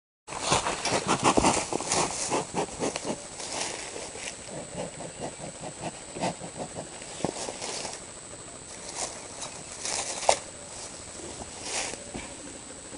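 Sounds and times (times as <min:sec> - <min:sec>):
rustling: 0:00.3 - 0:08.1, 0:08.7 - 0:12.5.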